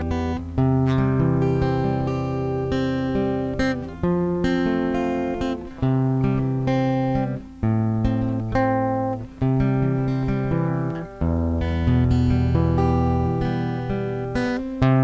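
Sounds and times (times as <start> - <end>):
guitar chords: 0.0 - 15.0.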